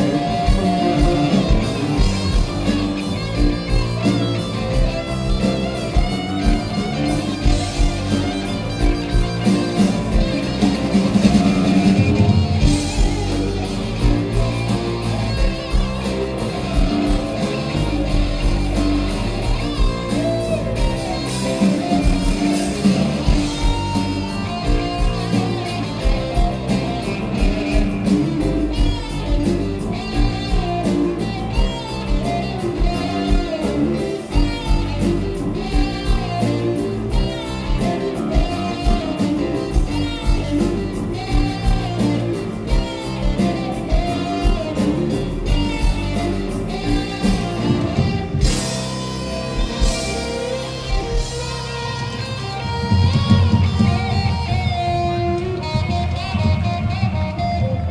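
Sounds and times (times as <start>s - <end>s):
blues-rock band playing: 0.0s - 57.9s.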